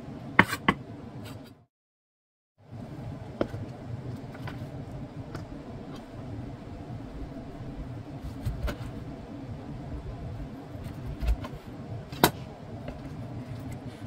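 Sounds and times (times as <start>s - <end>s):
low background hum: 0.0s - 1.7s, 2.6s - 14.0s.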